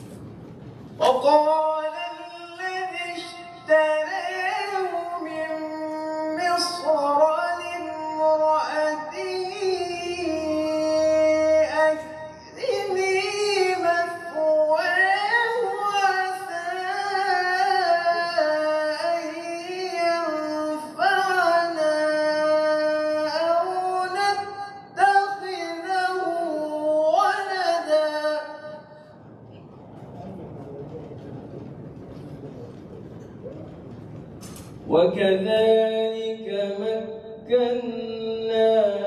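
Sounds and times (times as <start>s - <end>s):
man reciting melodically: 1.0s - 29.2s, 34.8s - 39.0s.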